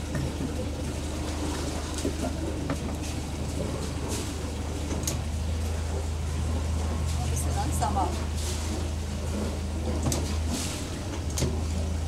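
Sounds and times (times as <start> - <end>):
motorboat engine idling: 0.0 - 12.0.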